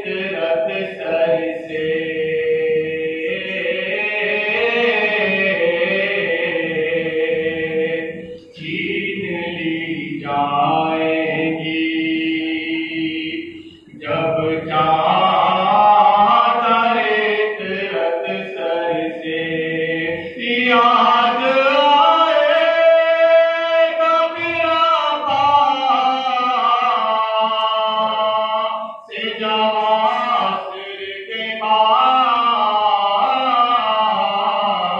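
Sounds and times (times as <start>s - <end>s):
man chanting a lament: 0.0s - 34.9s.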